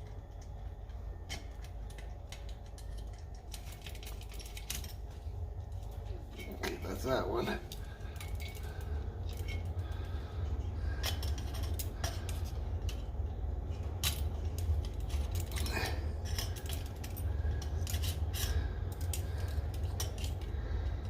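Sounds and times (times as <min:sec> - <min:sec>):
low steady hum: 0:00.0 - 0:21.0
small metal parts clinking: 0:01.2 - 0:21.0.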